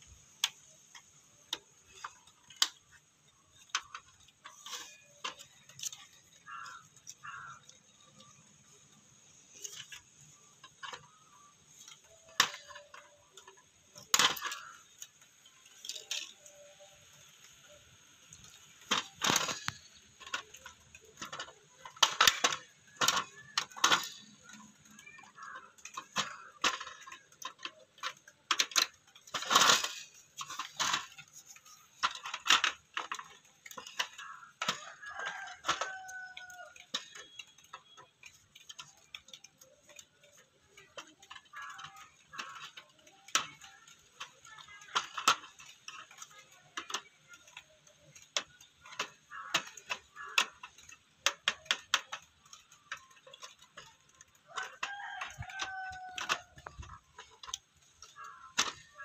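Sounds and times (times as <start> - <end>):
plastic and metal clicks and knocks: 0.0 - 59.0.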